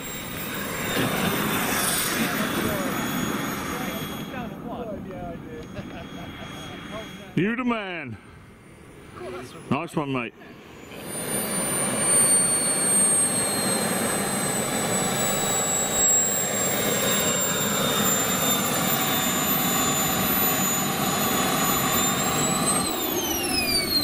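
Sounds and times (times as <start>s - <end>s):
model jet turbine whining: 0.0s - 24.0s
rushing exhaust noise: 0.0s - 24.0s.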